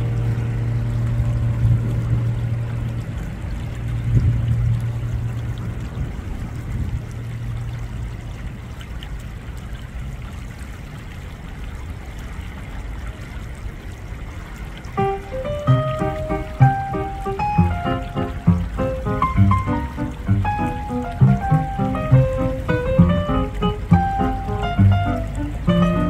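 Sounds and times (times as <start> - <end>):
stream water running and splashing: 0.0 - 26.0.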